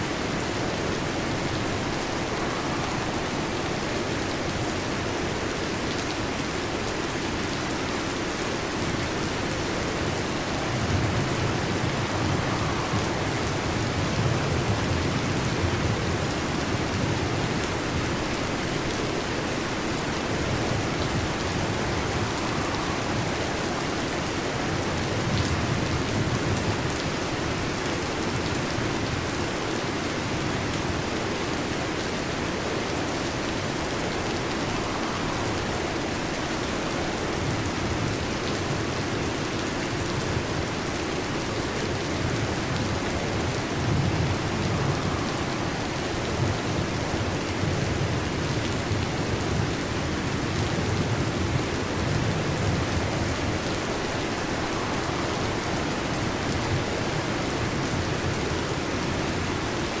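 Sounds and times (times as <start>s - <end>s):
heavy rain on a metal roof: 0.0s - 60.0s.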